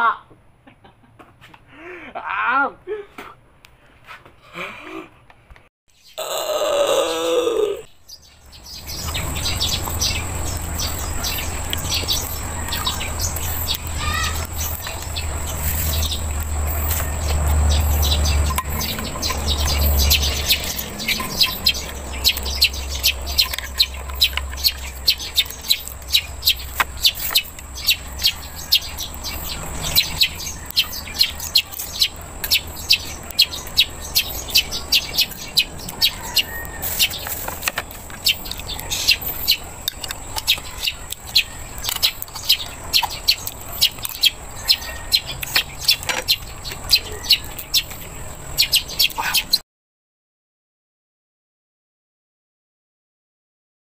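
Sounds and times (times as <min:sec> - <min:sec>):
birds chirping: 0:05.9 - 0:49.6.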